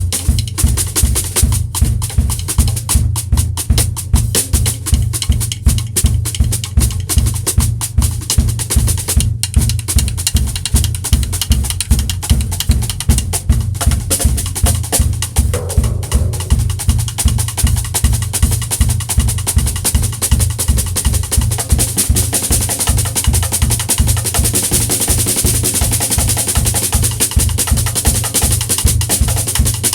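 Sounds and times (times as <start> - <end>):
pulsing bass drum: 0.0 - 29.9.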